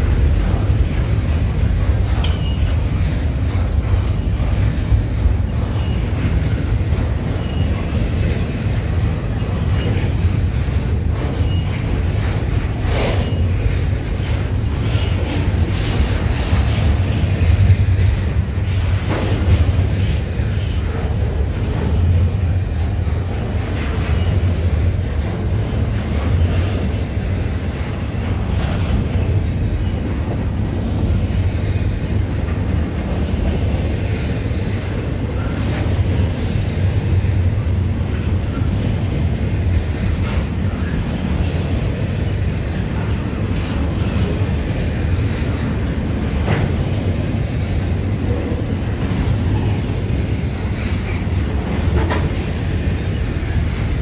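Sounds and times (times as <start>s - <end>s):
train cars clanking: 0.0s - 54.0s
train wheels rumbling on rail: 0.0s - 54.0s.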